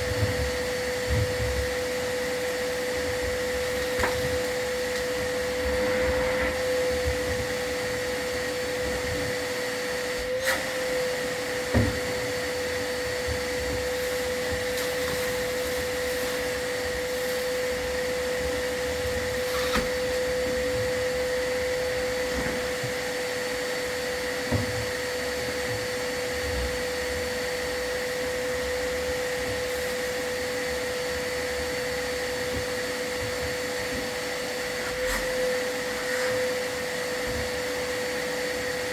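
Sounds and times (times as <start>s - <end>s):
vacuum motor whining: 0.0s - 38.9s.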